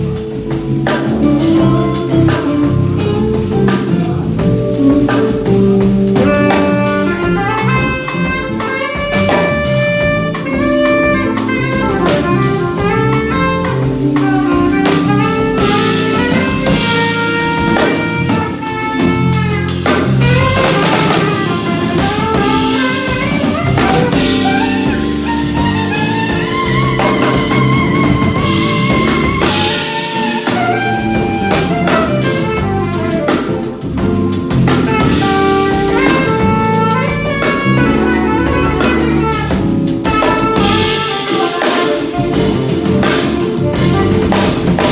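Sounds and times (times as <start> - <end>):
live band playing: 0.0 - 44.9
melodic lead lines: 0.0 - 44.9.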